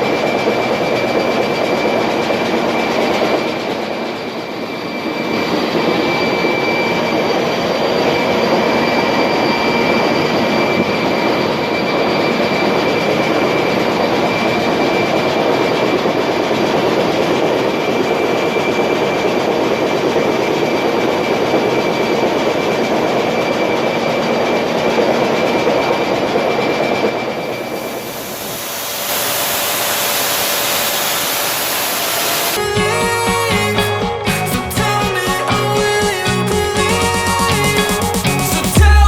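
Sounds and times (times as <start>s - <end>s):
constant high whine: 0.0s - 39.0s.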